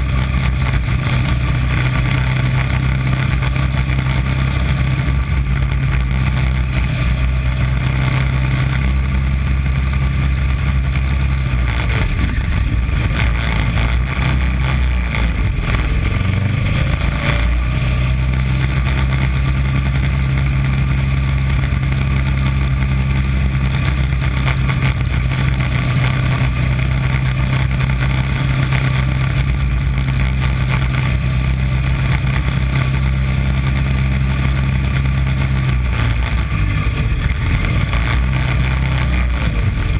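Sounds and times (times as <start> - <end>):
small race car engine running hard: 0.0 - 39.9.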